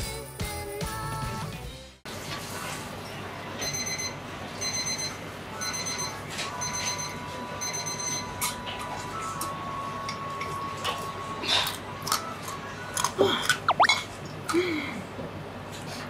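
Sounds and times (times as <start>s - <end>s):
steady background hum: 2.9s - 16.0s.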